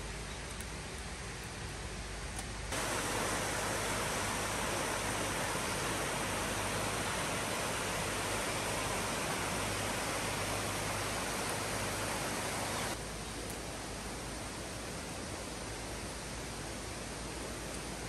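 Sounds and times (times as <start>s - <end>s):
stream flowing: 2.7s - 18.0s.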